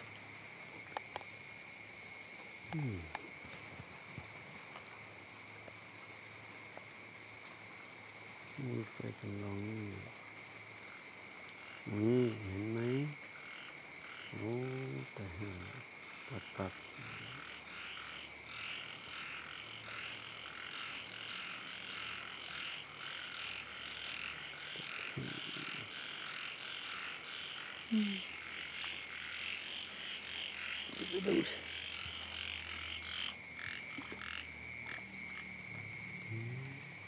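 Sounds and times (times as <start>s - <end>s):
frogs calling: 0.0s - 37.0s.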